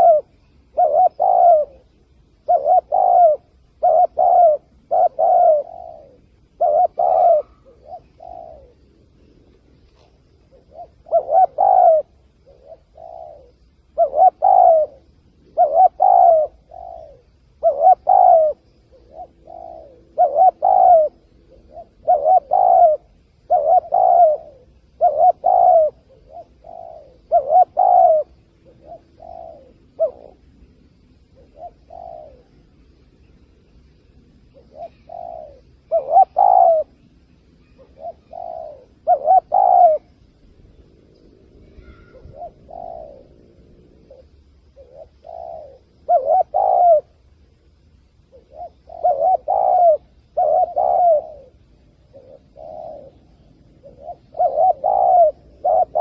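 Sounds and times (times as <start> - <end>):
dove cooing: 0.0 - 33.4, 34.0 - 47.4, 48.0 - 56.0.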